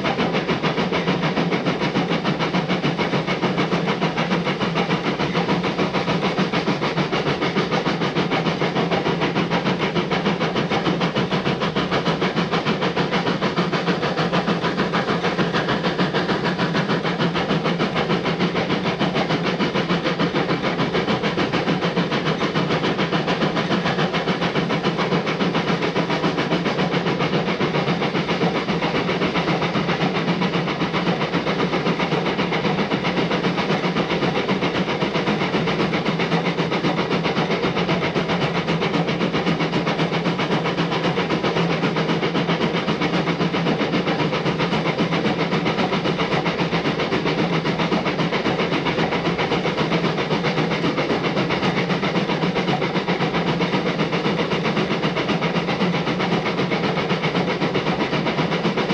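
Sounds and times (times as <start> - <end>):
hiss of steam: 0.0 - 58.9
train rumbling on rails: 0.0 - 58.9.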